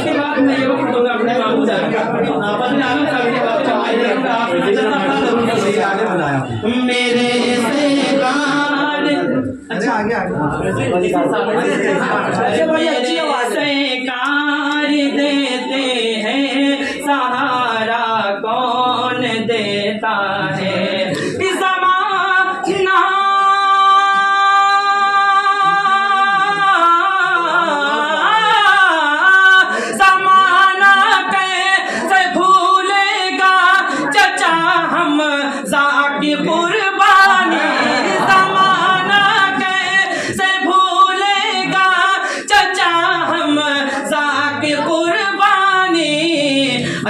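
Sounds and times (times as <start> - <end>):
man singing unaccompanied: 0.0 - 9.8, 11.1 - 47.0.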